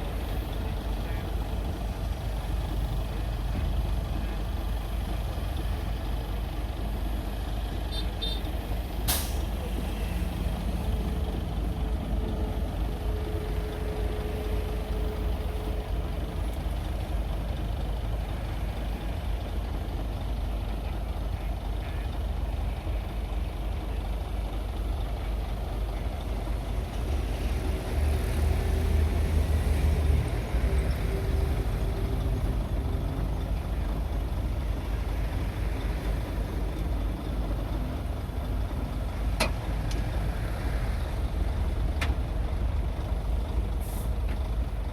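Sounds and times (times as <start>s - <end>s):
diesel machinery rumbling: 0.0s - 44.9s.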